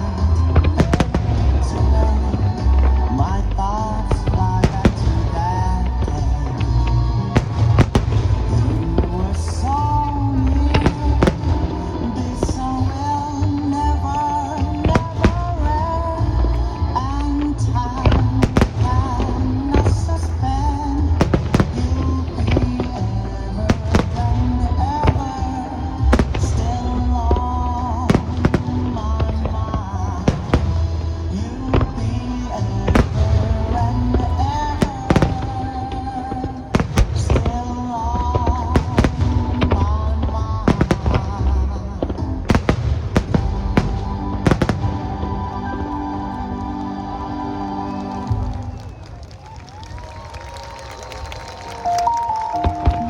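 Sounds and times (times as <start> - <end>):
low booms: 0.0 - 47.3
slow melodic music with bass: 0.0 - 49.1, 51.4 - 53.0
fireworks bangs: 0.0 - 53.0.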